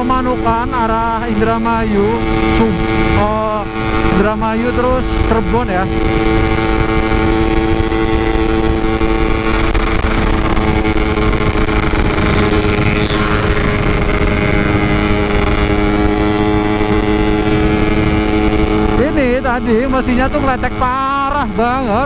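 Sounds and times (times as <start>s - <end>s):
two-stroke motorcycle engine: 0.0s - 22.0s
wind rumble on microphone: 0.0s - 22.0s.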